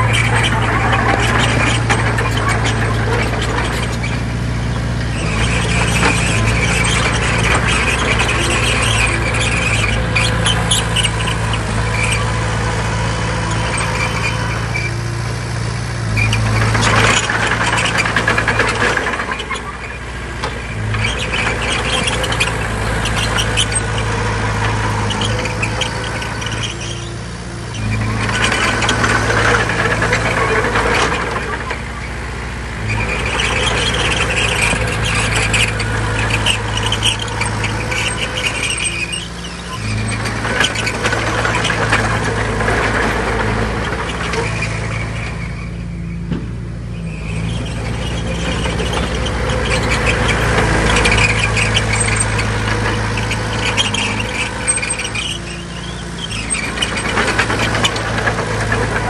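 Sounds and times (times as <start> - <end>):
bulldozer diesel engine running: 0.0 - 59.0
steel tracks squealing and clanking: 0.0 - 59.0.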